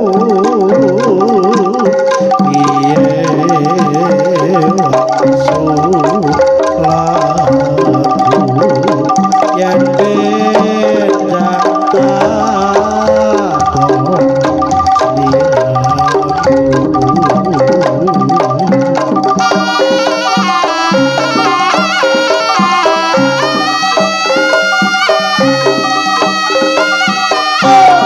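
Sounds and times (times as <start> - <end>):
bronze metallophones playing: 0.0 - 28.0
hand drums: 0.0 - 28.0.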